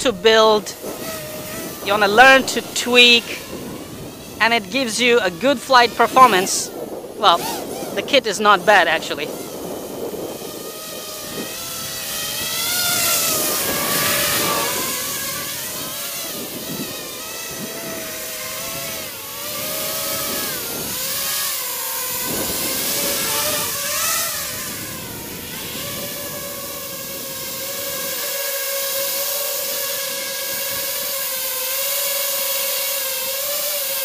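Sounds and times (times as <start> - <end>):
drone motors and propellers whining: 0.0 - 34.0.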